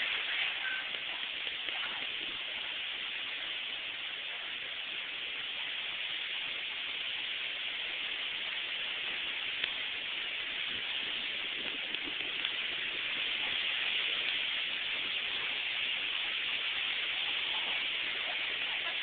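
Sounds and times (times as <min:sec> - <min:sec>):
wind blowing: 0:00.0 - 0:19.0.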